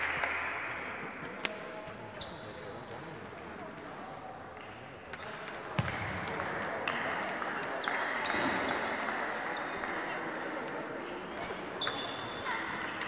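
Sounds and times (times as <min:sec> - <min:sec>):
hubbub of voices: 0:00.0 - 0:13.0.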